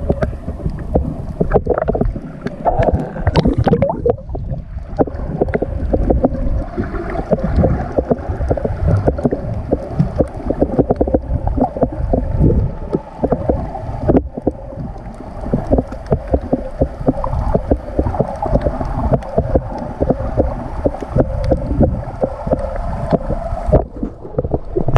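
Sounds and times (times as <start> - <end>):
fast crackling clicks: 0.0 - 24.9
muffled underwater sloshing: 0.0 - 24.9.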